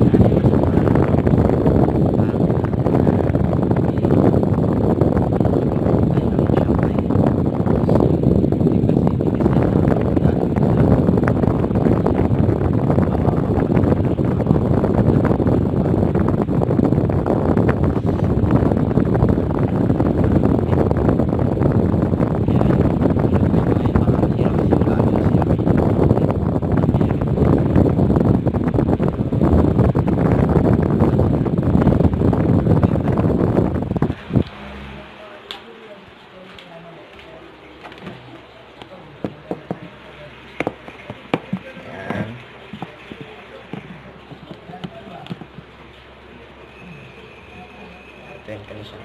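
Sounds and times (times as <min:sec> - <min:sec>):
wind rumbling on microphone: 0:00.0 - 0:35.4, 0:37.3 - 0:49.0.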